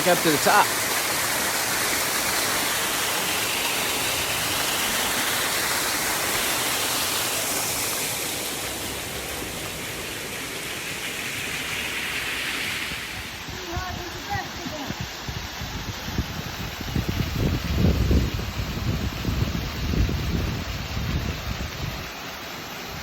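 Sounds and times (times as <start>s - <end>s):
creek cascade rushing: 0.0s - 23.0s.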